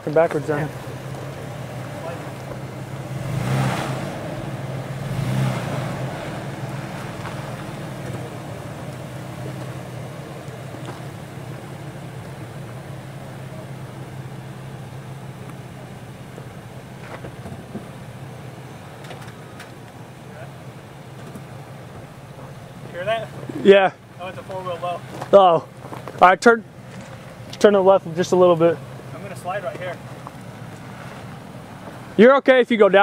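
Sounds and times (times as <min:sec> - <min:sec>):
suv engine crawling at low revs: 0:00.0 - 0:33.0.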